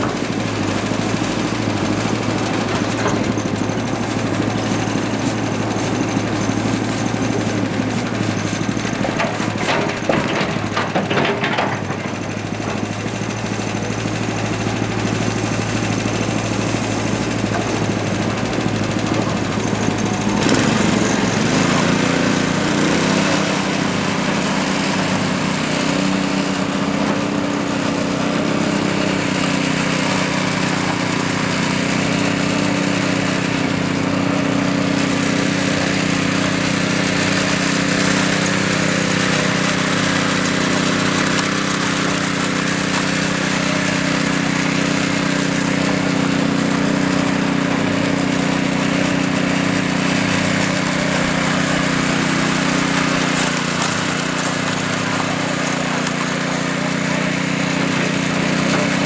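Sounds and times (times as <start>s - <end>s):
power trowel petrol engine droning: 0.0s - 59.0s.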